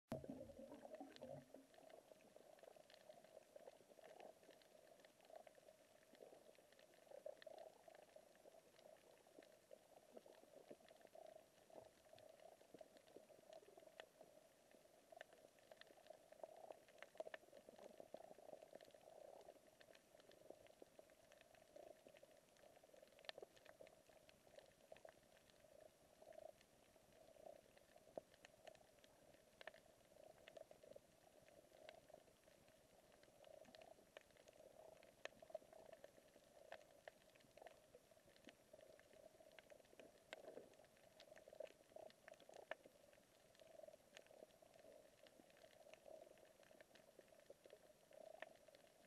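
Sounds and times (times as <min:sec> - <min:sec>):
reef clicks and crackles: 0:00.1 - 0:49.0
steady low underwater hum: 0:00.1 - 0:49.0.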